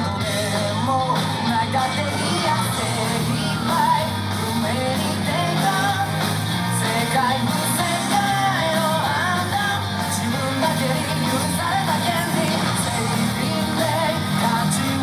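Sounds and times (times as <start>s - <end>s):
rock song with male vocals: 0.0s - 15.0s.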